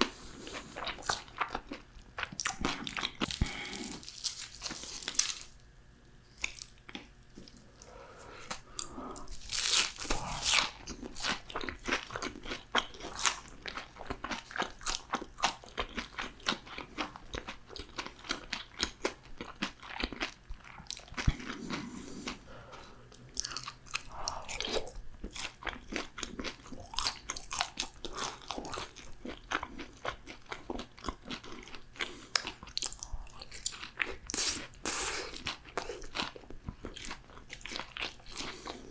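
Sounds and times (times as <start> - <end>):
chewing crisp food: 0.0 - 5.6, 6.3 - 38.9.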